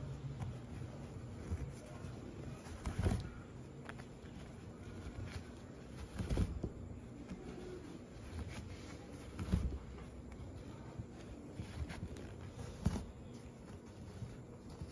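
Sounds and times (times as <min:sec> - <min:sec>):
rustling yarn strips: 0:00.0 - 0:14.9.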